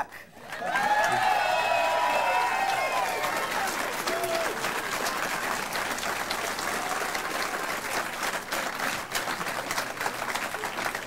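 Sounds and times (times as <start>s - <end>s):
audience applause: 0.4s - 11.0s.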